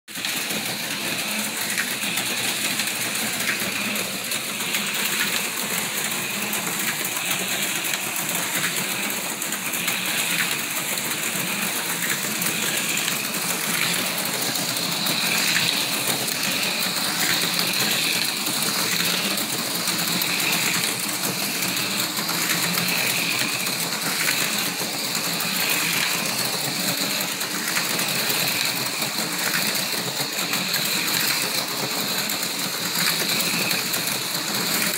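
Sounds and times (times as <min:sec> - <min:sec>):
cars rattling in track slots: 0:00.1 - 0:34.9
slot car motors whining: 0:00.1 - 0:34.9.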